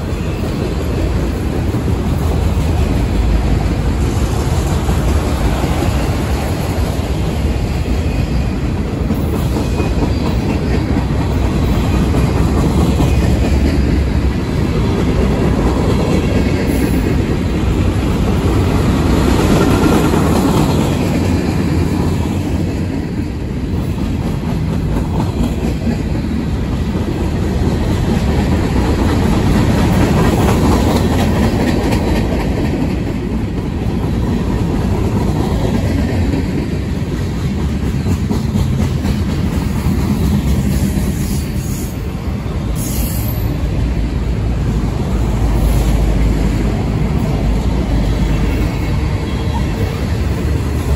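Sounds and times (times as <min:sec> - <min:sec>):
clickety-clack over rail joints: 0:00.0 - 0:50.9
train wheels rumbling on rails: 0:00.0 - 0:50.9.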